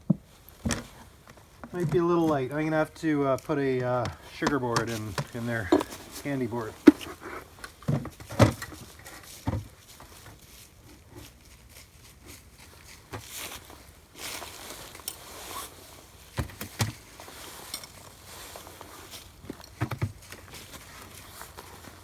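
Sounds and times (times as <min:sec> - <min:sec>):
rustling: 0:00.1 - 0:22.0.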